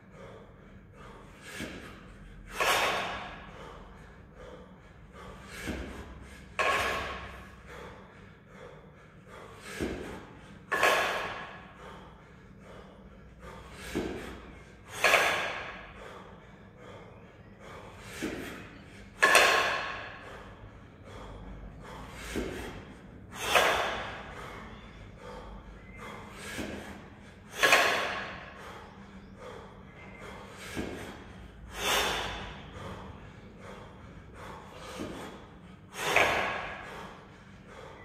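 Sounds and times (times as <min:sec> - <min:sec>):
person breathing forcefully: 0:00.0 - 0:38.0.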